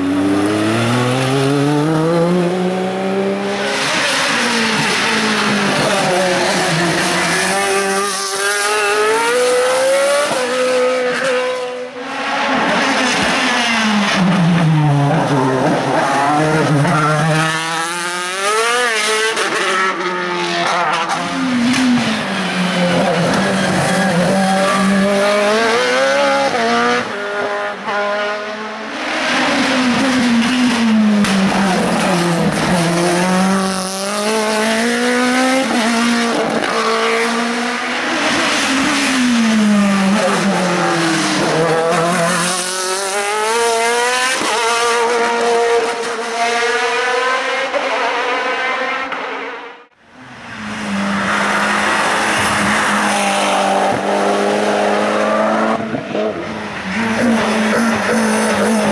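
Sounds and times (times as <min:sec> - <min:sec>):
racing car engines at high revs: 0:00.0 - 0:58.9.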